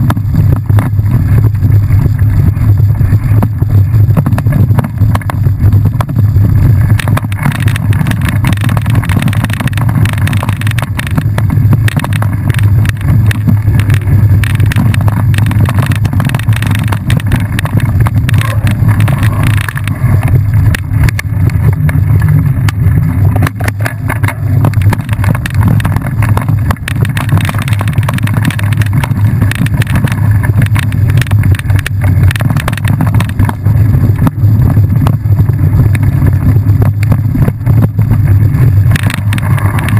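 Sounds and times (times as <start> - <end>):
wind rushing over microphone: 0.0 - 39.9
rattles and knocks: 3.3 - 39.9.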